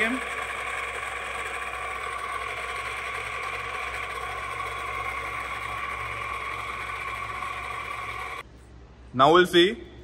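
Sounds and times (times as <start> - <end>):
drill spindle whining: 0.0 - 8.4.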